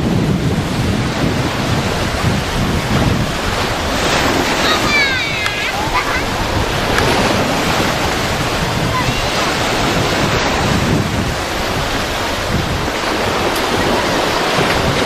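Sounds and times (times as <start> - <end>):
waves washing onto shore: 0.0 - 15.0
wind buffeting microphone: 0.0 - 15.0.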